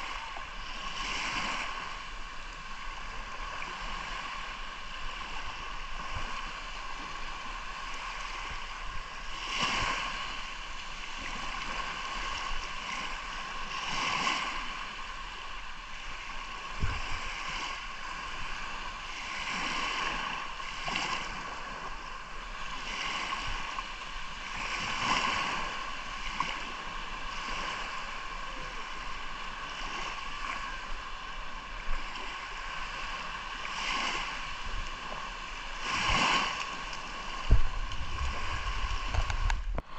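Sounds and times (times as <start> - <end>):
sea surf washing ashore: 0.0 - 39.9.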